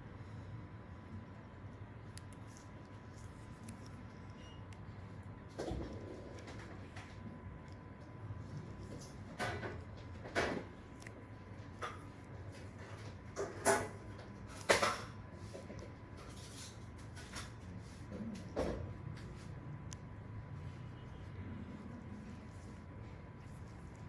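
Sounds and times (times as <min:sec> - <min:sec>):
low room noise: 0:00.0 - 0:24.0.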